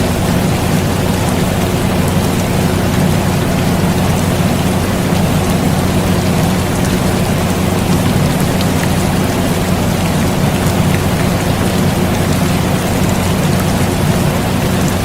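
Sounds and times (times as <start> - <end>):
air conditioner humming: 0.0 - 15.0
rain falling: 0.0 - 15.0
raindrop ticks: 0.0 - 15.0.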